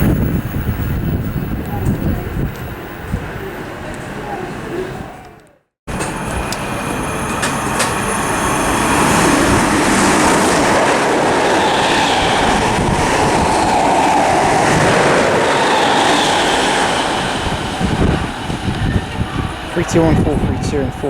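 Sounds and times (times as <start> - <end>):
train wheels rushing on rail: 0.0 - 21.0.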